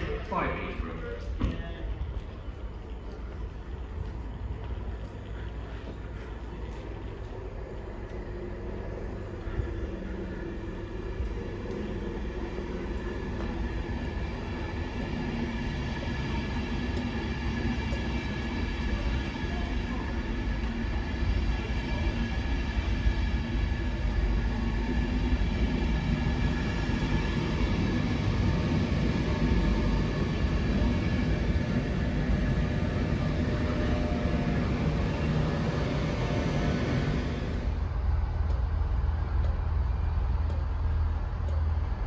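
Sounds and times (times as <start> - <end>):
electric train hum: 0.0 - 42.0.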